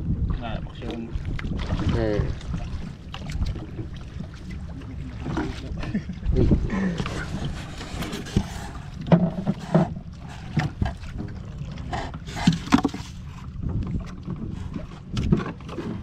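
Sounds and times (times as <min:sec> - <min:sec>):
low rumble of water: 0:00.0 - 0:16.0
wind: 0:00.0 - 0:16.0
knocks and clatter on a boat: 0:00.1 - 0:16.0.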